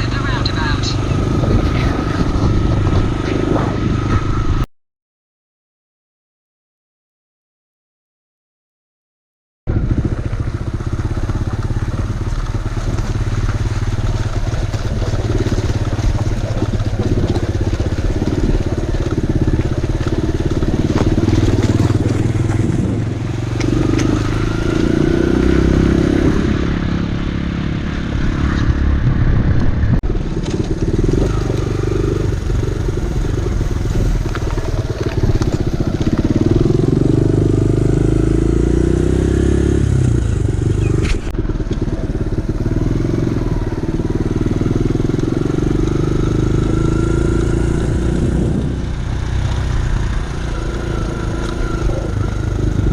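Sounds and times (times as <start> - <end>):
dirt bike engine revving: 0.0 - 4.6, 9.7 - 52.9.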